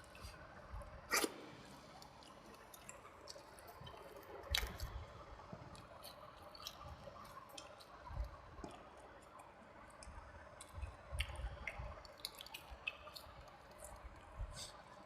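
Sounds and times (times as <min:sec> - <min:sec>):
wet chewing and mouth smacking: 0:01.1 - 0:14.9.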